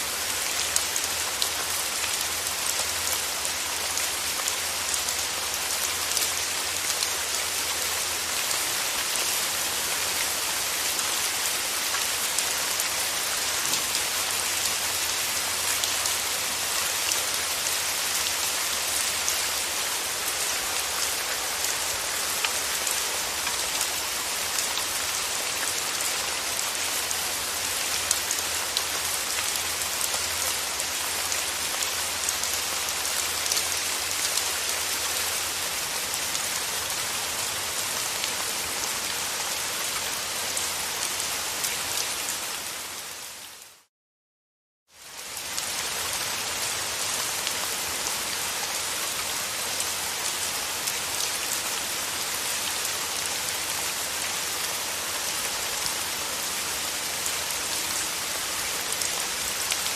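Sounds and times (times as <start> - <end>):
rain falling: 0.0 - 43.9, 44.9 - 59.9.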